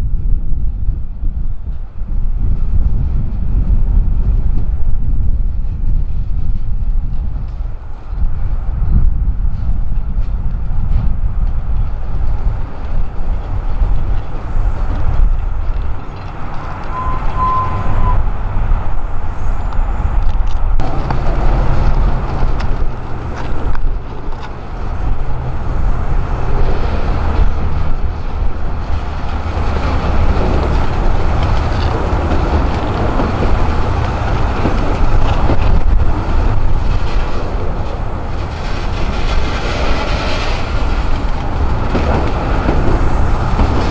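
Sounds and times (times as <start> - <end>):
diesel train locomotive rumbling: 0.0 - 43.9.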